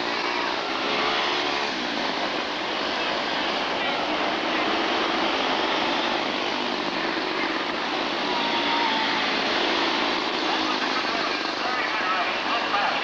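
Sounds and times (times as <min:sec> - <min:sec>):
small race car engines buzzing: 0:00.0 - 0:13.0.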